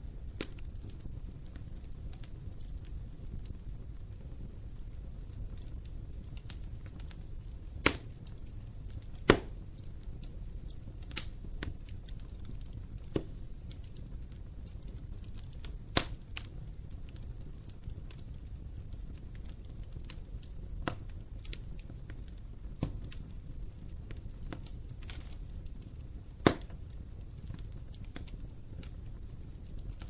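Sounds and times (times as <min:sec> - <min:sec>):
sharp pops of fire: 0:00.0 - 0:30.0
wood fire crackling: 0:00.0 - 0:30.0.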